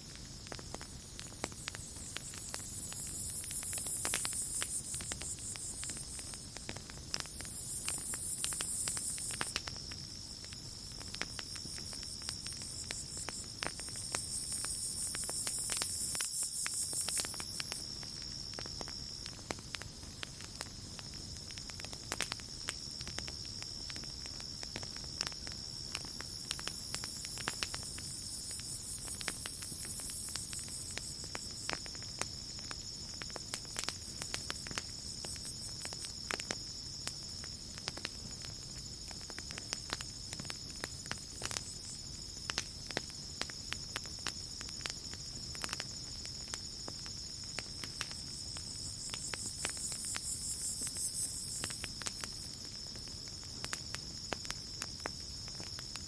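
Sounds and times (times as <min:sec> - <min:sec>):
campfire crackling and popping: 0:00.0 - 0:56.0
crickets chirring: 0:00.0 - 0:56.0
high insect trill: 0:00.1 - 0:56.0.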